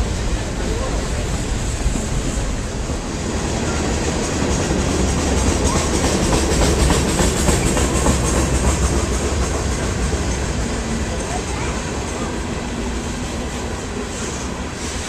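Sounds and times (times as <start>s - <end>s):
steel wheels rumbling on rail: 0.0s - 15.0s
wheels clicking over track: 0.2s - 12.6s.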